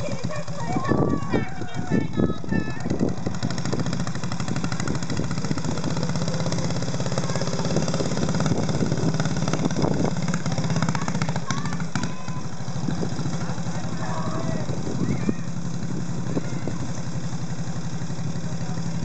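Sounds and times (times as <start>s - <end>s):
single-cylinder engine running: 0.0s - 19.0s.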